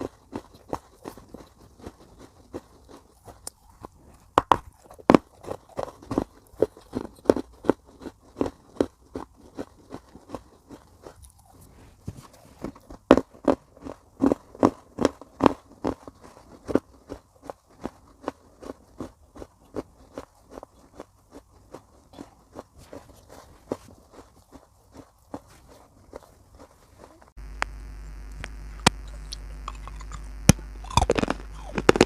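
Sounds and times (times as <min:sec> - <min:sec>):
chewing with dry crunches: 0:00.0 - 0:32.0.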